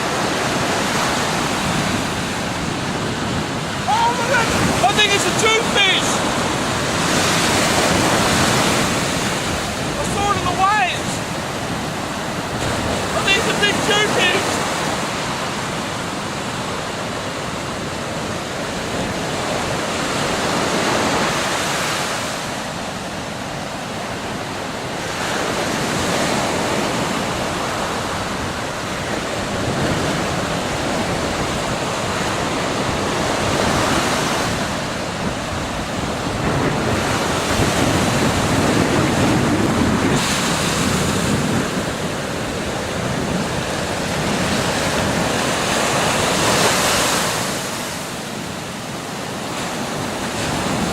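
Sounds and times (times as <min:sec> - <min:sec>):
ocean surf breaking on beach: 0:00.0 - 0:50.9.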